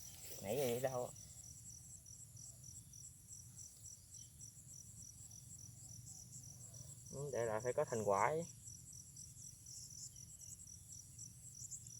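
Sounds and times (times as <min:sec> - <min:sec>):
insect chirping: 0:00.0 - 0:11.9
insect trill: 0:00.0 - 0:11.9.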